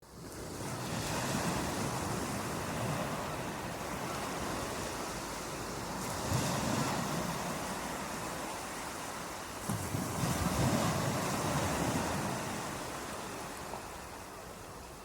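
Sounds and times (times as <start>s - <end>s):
ocean waves washing onto beach: 0.0s - 15.0s.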